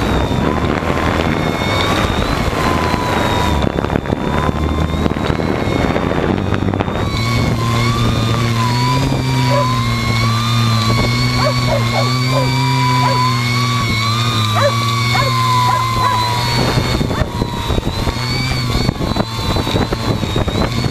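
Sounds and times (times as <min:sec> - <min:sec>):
drone propellers whining: 0:00.0 - 0:20.9
low hum: 0:00.0 - 0:20.9
wind buffeting microphone: 0:00.0 - 0:20.9.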